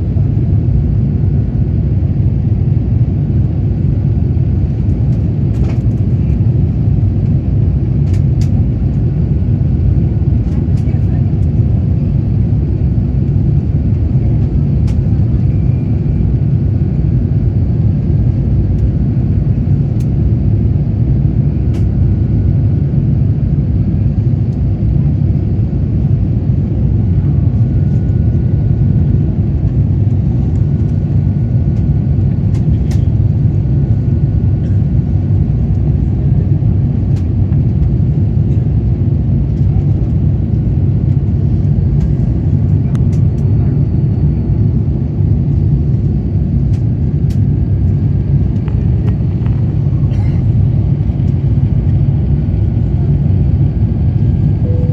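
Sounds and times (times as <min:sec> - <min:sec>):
jet engines roaring in cabin: 0:00.0 - 0:54.9.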